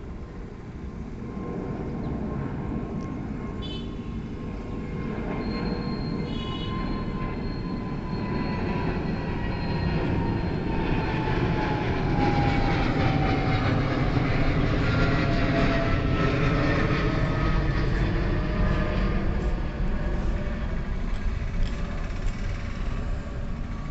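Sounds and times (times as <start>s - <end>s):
jet engine whine: 0.0s - 23.9s
jet engines rumbling: 0.0s - 23.9s.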